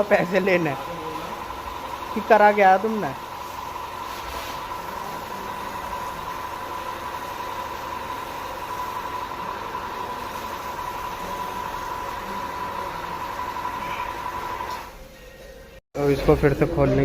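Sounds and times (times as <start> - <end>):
small motor tool whining: 0.0 - 15.0.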